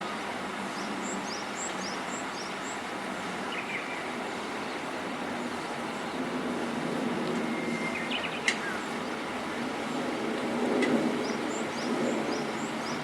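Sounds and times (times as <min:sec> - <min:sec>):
distant traffic hum: 0:00.0 - 0:13.0
songbirds chirping: 0:00.1 - 0:06.4, 0:07.2 - 0:10.2, 0:10.8 - 0:13.0.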